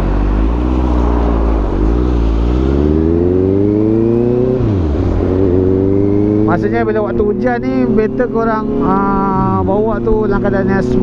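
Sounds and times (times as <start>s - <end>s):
motorcycle engine accelerating: 0.0s - 11.0s
wind and road noise: 0.0s - 11.0s.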